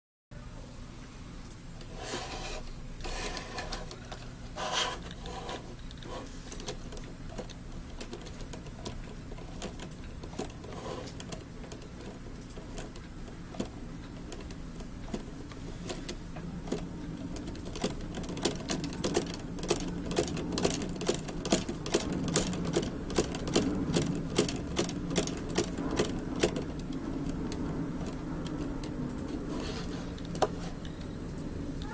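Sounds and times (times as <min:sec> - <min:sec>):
steady motor hum: 0:00.6 - 0:31.9.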